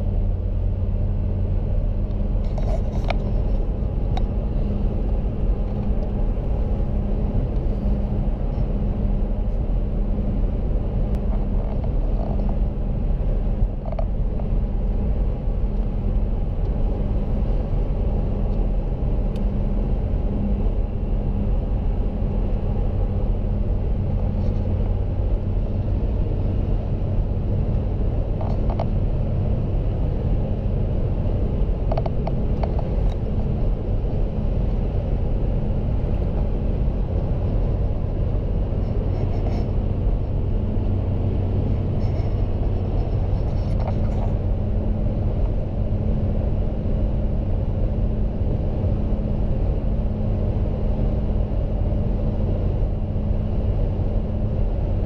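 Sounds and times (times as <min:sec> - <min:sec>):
constant hum: 0:00.0 - 0:55.0
vehicle engine rumble: 0:00.0 - 0:55.0.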